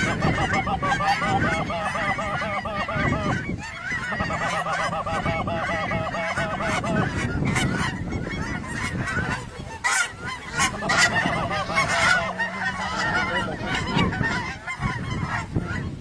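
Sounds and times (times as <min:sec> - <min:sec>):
geese honking and cackling: 0:00.0 - 0:16.0.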